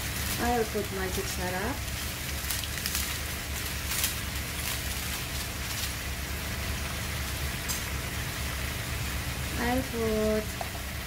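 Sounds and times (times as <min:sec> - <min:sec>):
chicken sizzling in a wok: 0:00.0 - 0:11.0.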